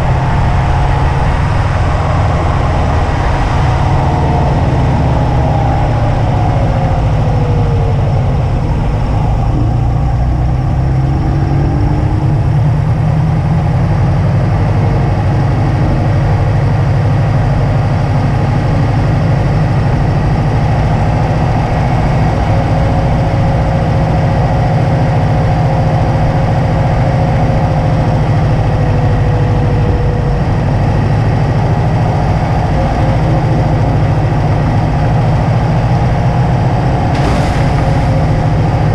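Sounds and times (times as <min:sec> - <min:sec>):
car engine running: 0:00.0 - 0:38.9
low road rumble: 0:00.0 - 0:38.9.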